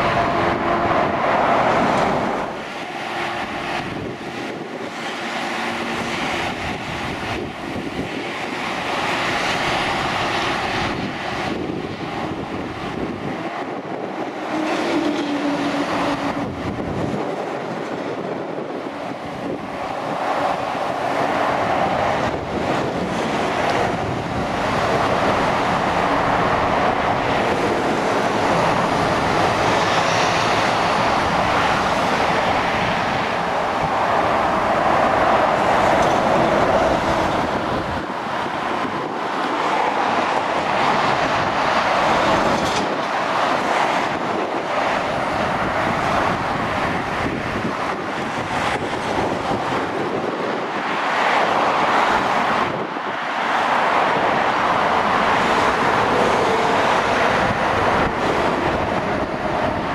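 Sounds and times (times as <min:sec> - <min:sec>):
motorway traffic passing: 0:00.0 - 0:59.9.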